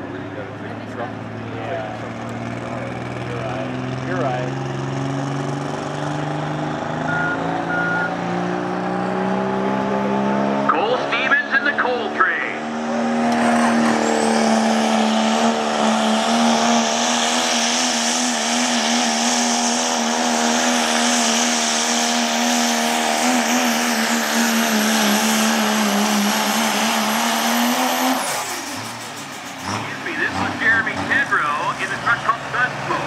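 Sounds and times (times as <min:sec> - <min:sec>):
diesel engine at full throttle: 0:00.0 - 0:33.0.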